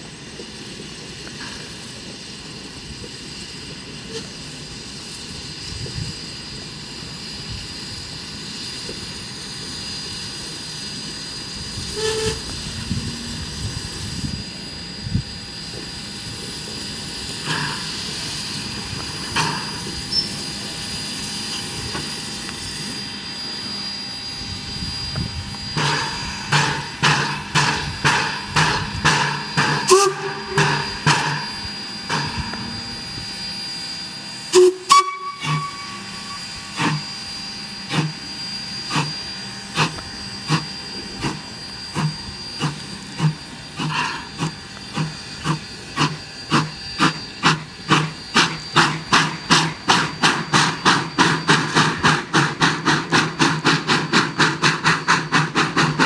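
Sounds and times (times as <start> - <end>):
steam hiss: 0.0 - 56.0
steam locomotive chuffing: 0.0 - 56.0.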